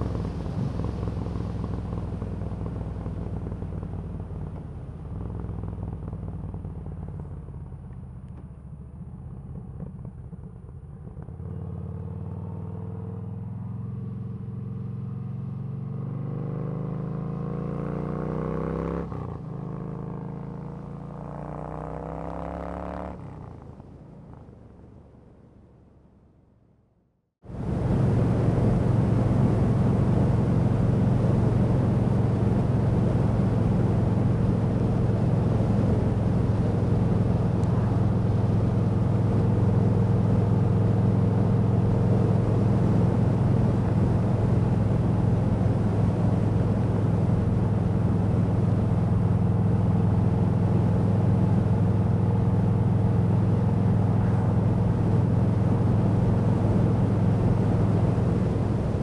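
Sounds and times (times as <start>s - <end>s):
motorcycle engine cruising: 0.0s - 25.2s, 27.5s - 59.0s.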